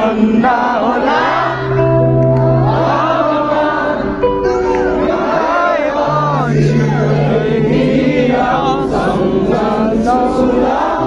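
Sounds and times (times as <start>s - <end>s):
crowd singing together: 0.0s - 11.0s
live band music: 1.2s - 10.2s.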